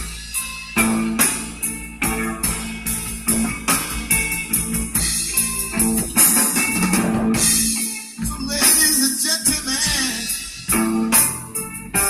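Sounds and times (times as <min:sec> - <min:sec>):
deep bass: 0:00.0 - 0:08.9, 0:09.5 - 0:12.0
blues electric guitar: 0:00.0 - 0:12.0
drum beat: 0:00.0 - 0:12.0.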